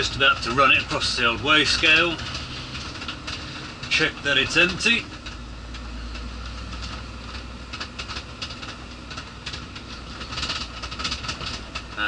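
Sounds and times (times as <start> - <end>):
light rattles and clicks: 0.0 - 12.0
lorry diesel engine running: 0.0 - 12.0.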